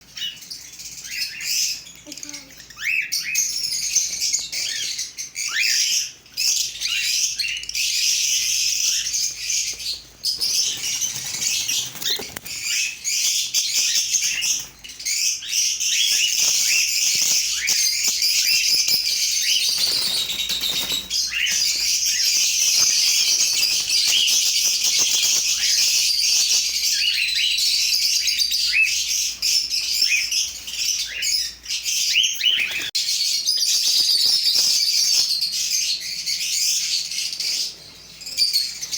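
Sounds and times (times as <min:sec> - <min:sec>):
flock of parrots chattering: 0:00.1 - 0:38.9.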